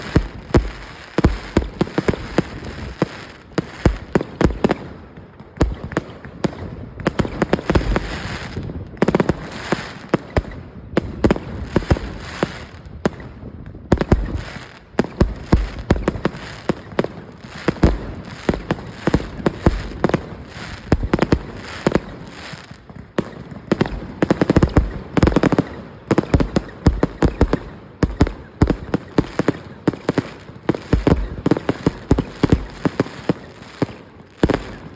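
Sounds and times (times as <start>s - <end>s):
firework pops and crackles: 0.0s - 34.9s.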